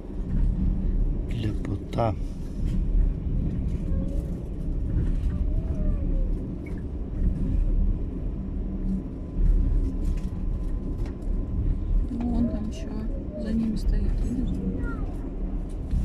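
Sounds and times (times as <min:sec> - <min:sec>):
train carriage rumbling: 0:00.0 - 0:16.0.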